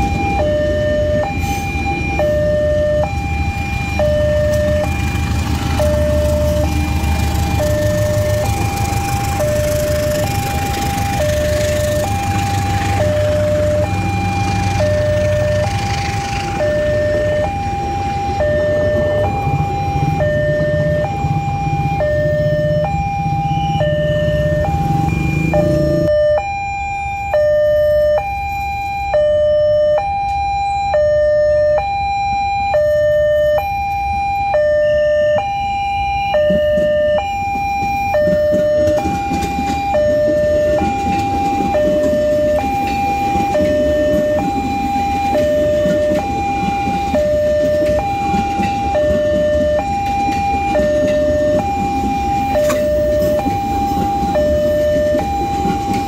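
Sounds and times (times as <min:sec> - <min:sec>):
passenger train rumbling: 0:00.0 - 0:26.4, 0:30.0 - 0:56.0
electric train rumbling: 0:00.0 - 0:26.6, 0:27.3 - 0:56.0
level crossing two-tone alarm: 0:00.0 - 0:56.0.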